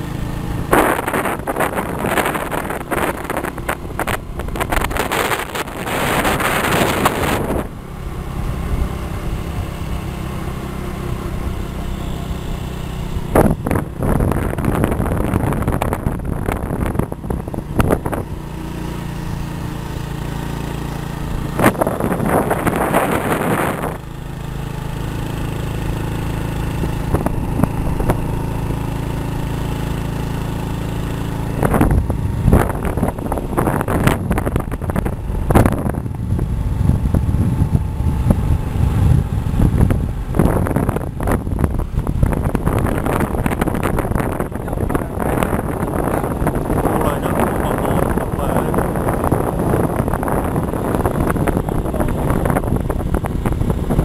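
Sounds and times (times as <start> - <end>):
wind rushing over microphone: 0.0 - 11.6, 13.0 - 54.0
vehicle engine and road hum: 0.0 - 54.0.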